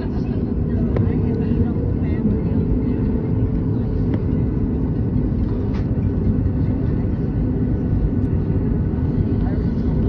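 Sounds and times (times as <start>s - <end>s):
airplane cabin engine rumble: 0.0s - 10.0s
faint engine whine: 0.0s - 10.0s.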